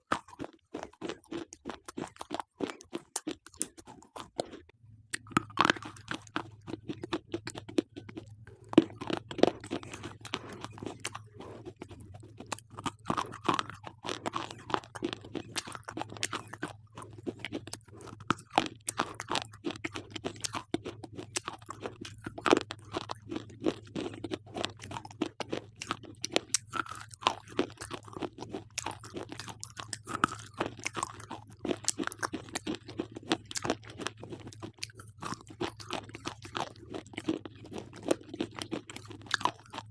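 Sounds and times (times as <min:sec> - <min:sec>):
slate pencils being chewed: 0:00.0 - 0:39.9
faint low hum: 0:00.1 - 0:39.9.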